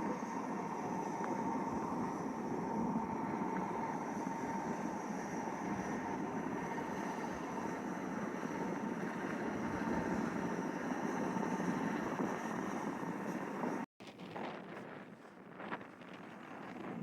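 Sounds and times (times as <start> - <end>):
thin steady tone: 0.0 - 13.9
train mechanical noise: 0.0 - 17.0.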